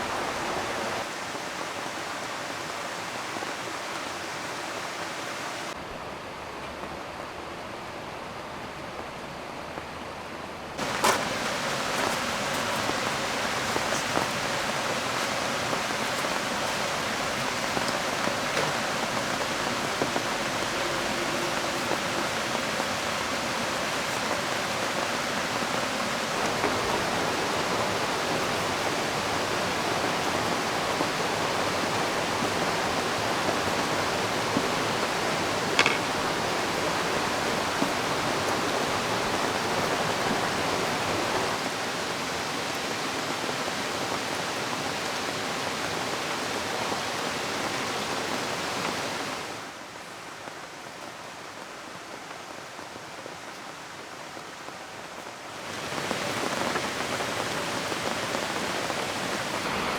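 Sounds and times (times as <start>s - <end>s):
rain and flowing river: 0.0s - 59.9s.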